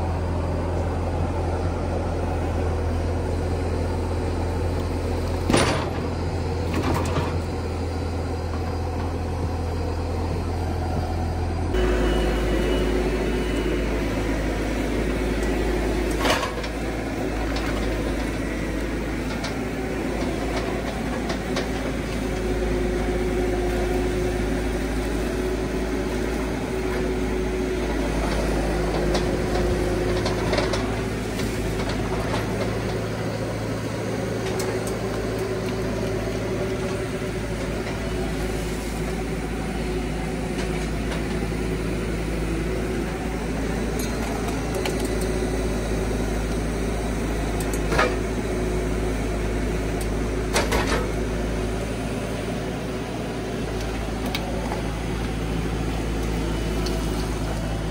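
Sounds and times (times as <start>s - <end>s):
diesel engine running with whine: 0.0s - 57.9s.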